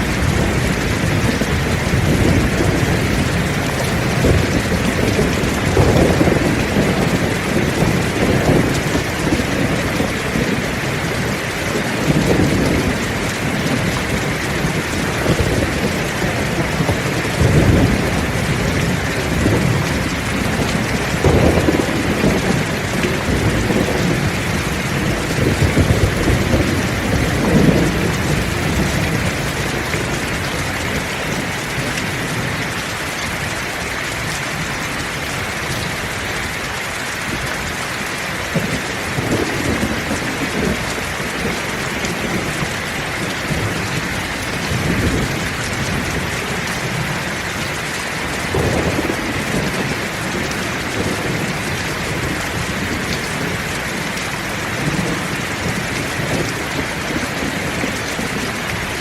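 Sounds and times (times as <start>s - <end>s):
heavy rain falling: 0.0s - 59.0s
low thunder rumbling: 0.0s - 59.0s.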